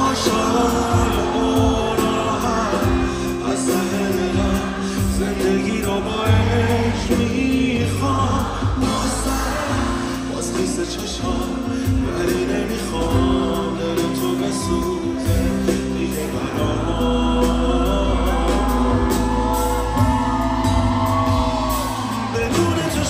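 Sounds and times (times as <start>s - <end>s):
live pop band playing: 0.0s - 23.0s
man singing: 0.0s - 23.0s.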